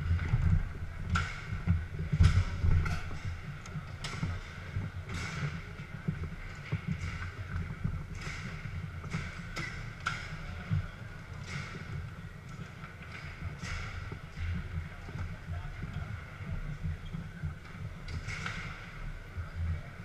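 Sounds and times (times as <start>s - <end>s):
low hall rumble: 0.0s - 20.0s.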